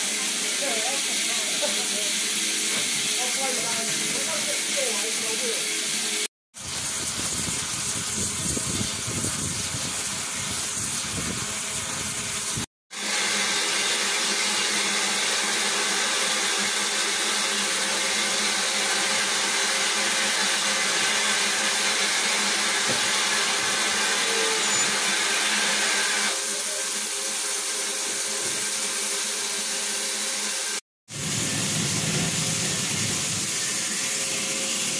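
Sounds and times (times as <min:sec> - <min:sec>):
steam locomotive hissing: 0:00.0 - 0:28.9, 0:31.1 - 0:34.9.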